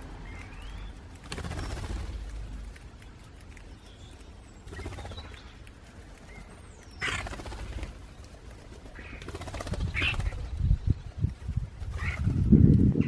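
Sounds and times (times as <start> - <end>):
starlings chirping: 0.0 - 13.0.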